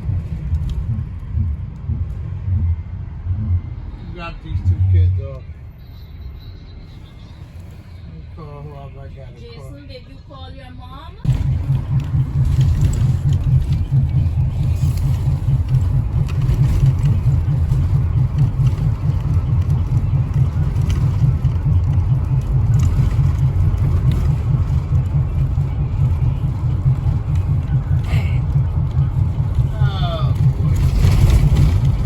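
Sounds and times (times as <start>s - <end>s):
bus engine rumbling: 0.0s - 32.0s.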